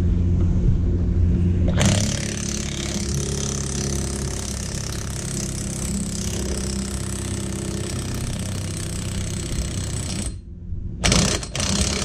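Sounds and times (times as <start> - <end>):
impact wrench hammering: 1.8 - 10.4, 11.0 - 12.0.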